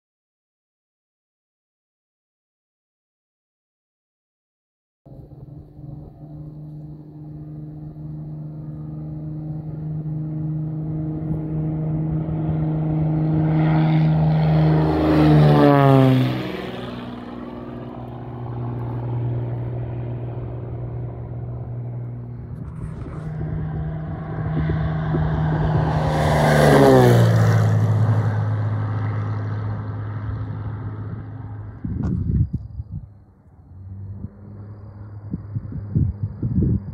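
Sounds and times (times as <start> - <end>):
propeller plane passing: 5.1 - 36.9.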